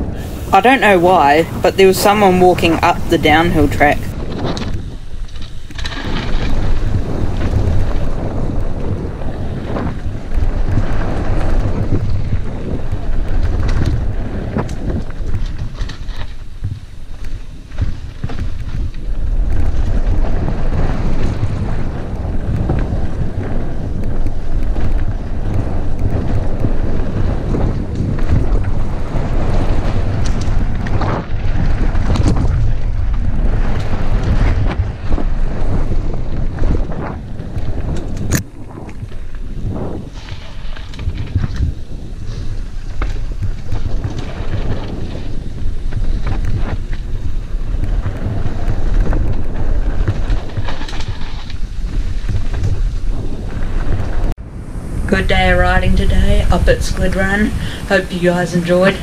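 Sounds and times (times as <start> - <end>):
bike tyre noise: 0.0 - 59.0
wind buffeting microphone: 0.0 - 59.0
bike knocks and rattles: 4.2 - 54.3.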